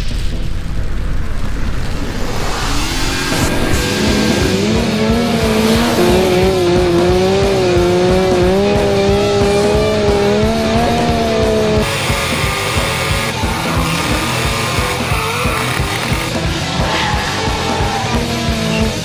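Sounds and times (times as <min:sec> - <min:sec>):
engine noise: 0:00.0 - 0:19.0
rock music: 0:00.0 - 0:19.0
tires squealing: 0:01.4 - 0:19.0.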